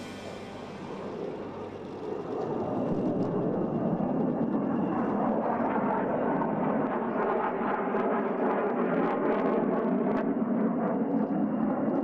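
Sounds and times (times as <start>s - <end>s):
fighter jet flying overhead: 0.0s - 12.0s.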